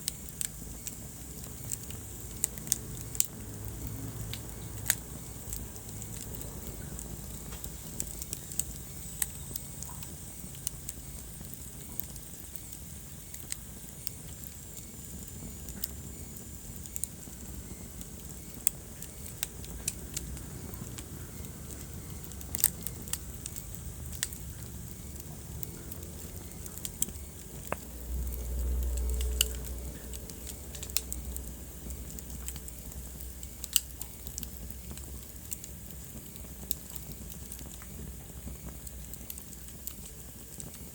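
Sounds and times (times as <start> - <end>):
low fire rumble: 0.0 - 40.9
wood fire crackling and popping: 0.0 - 40.9.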